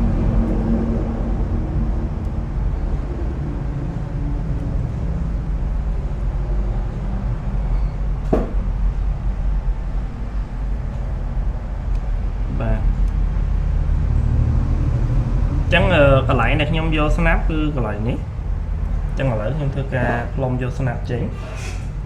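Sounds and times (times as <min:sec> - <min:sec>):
pitched hum: 0:00.0 - 0:22.0
steady low rumble: 0:00.0 - 0:22.0.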